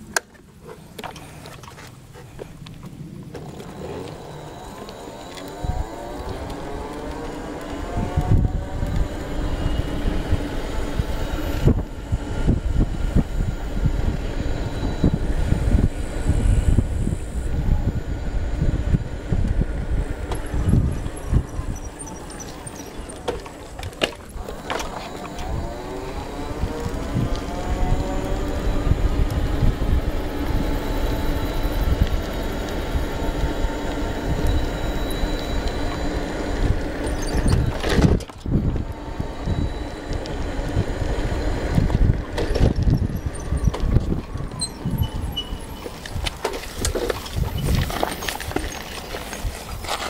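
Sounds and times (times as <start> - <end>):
wind buffeting microphone: 2.0 - 50.0
electric bicycle motor whining: 3.3 - 50.0.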